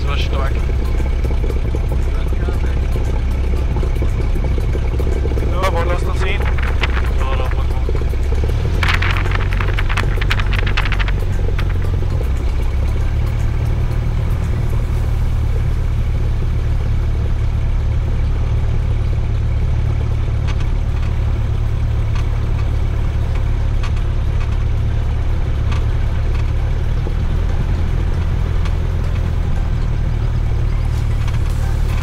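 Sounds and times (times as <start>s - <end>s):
propeller plane engine idling: 0.0s - 32.0s.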